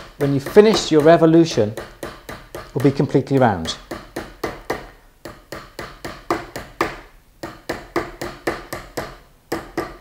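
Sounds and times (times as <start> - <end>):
hammer tapping metal bangle: 0.0 - 10.0.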